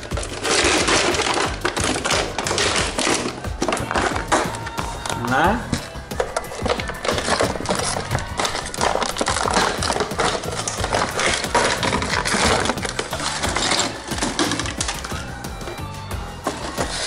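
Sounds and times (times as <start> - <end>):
plastic packaging crinkling: 0.0 - 15.8, 16.4 - 17.0
background music: 0.0 - 17.0.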